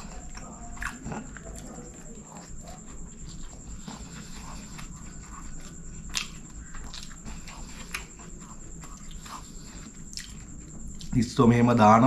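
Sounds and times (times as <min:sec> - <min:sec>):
man chewing food: 0:00.0 - 0:12.0.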